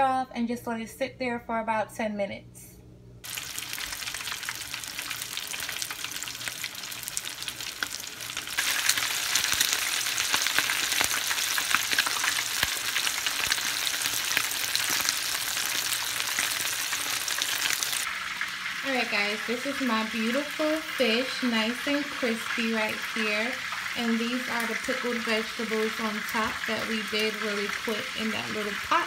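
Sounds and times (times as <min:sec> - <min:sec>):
fish sizzling in hot oil: 0:03.2 - 0:29.0.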